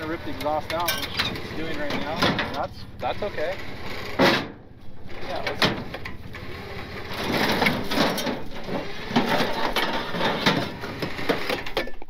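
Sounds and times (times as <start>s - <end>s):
exhaust pipe grinding on ramp: 0.0s - 11.9s
truck scraping up metal ramps: 0.0s - 12.0s.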